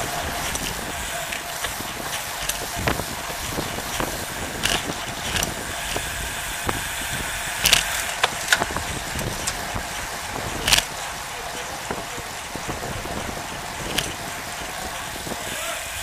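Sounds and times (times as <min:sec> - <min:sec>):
bike clicks and knocks: 0:00.0 - 0:15.4
tyres and air rushing hiss: 0:00.0 - 0:16.0.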